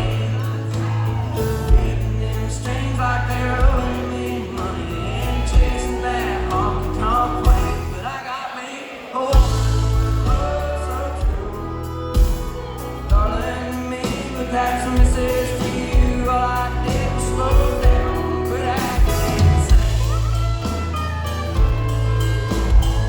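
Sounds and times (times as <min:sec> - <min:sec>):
drum beat: 0:00.0 - 0:08.1, 0:09.4 - 0:23.0
sliding guitar notes: 0:00.0 - 0:08.1, 0:09.4 - 0:23.0
country band playing: 0:00.0 - 0:08.2, 0:09.3 - 0:23.0
person singing: 0:00.0 - 0:20.7.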